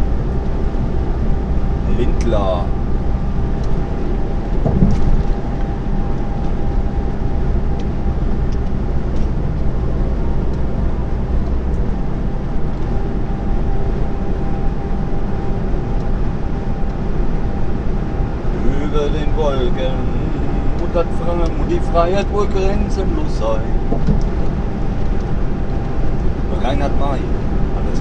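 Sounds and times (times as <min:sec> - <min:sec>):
faint steady whine: 0:00.0 - 0:28.0
lorry engine drone inside cab: 0:00.0 - 0:28.0.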